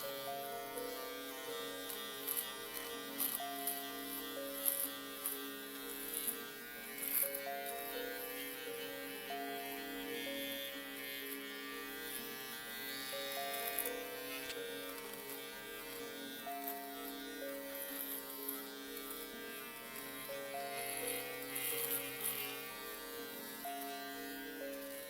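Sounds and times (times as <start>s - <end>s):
electric shaver buzzing: 0.0s - 25.0s
slow instrumental melody: 0.0s - 25.0s.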